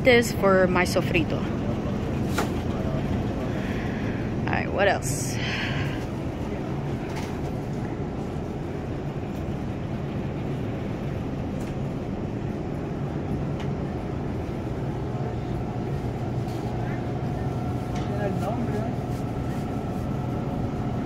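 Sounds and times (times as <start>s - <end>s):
refrigerator hum: 0.0s - 21.0s.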